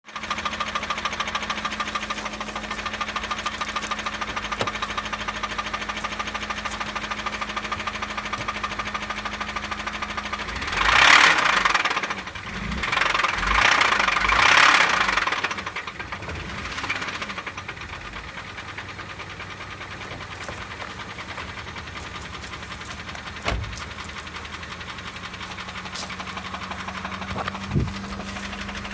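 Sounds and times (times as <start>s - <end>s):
engine revving: 0.1s - 20.0s, 20.6s - 28.9s
car engine idling with knock: 0.1s - 28.9s.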